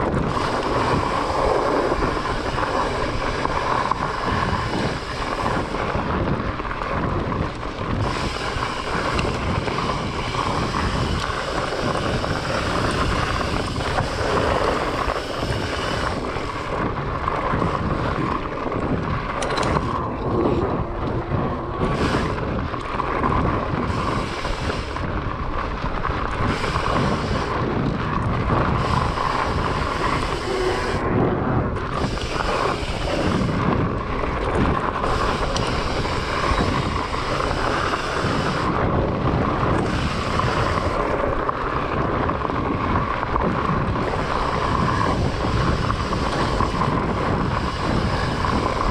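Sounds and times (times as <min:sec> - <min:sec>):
bike tyres rumbling on trail: 0:00.0 - 0:48.9
wind buffeting microphone: 0:00.0 - 0:48.9.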